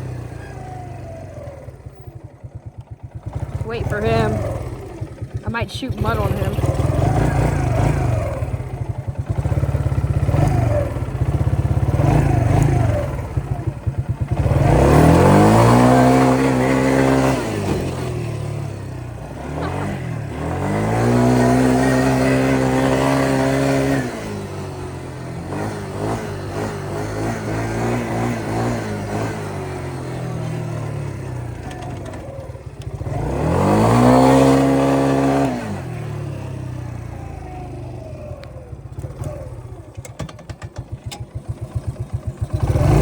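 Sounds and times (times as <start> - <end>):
atv engine revving: 0.0 - 43.0.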